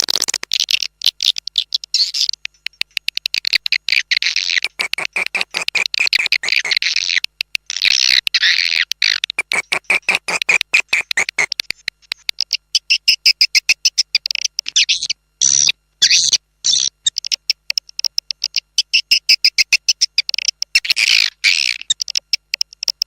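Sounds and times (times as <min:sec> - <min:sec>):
rapid dry clicking: 0:00.0 - 0:12.6, 0:17.0 - 0:23.0
buzzy twittering bird chirps: 0:00.1 - 0:23.0.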